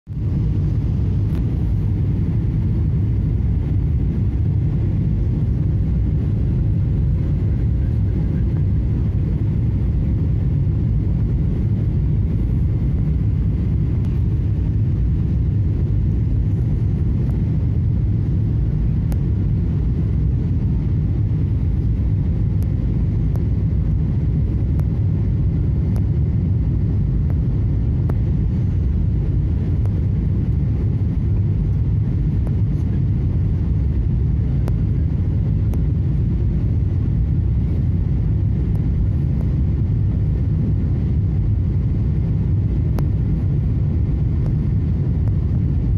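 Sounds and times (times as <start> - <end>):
faint steady hum: 0.1 - 45.9
jet engines rumbling: 0.1 - 45.9.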